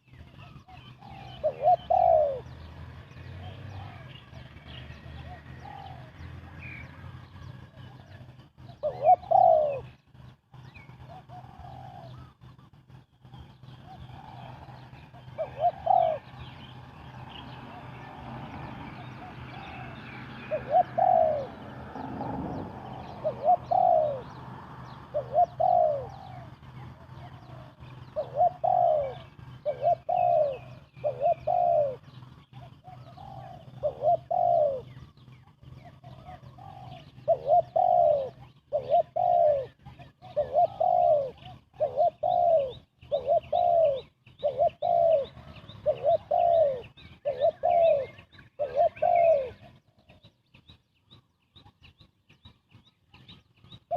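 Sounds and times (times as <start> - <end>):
dove cooing: 0.0 - 52.1, 52.8 - 53.9.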